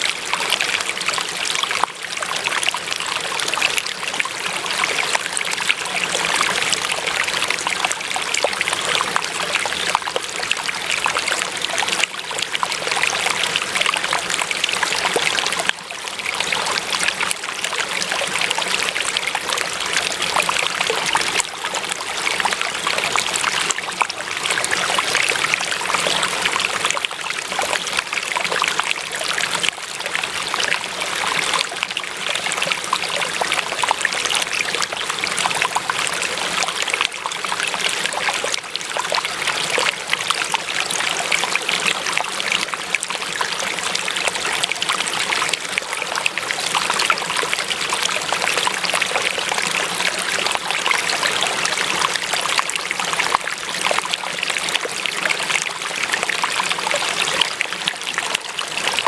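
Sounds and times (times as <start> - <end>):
water trickling and babbling: 0.0 - 59.0.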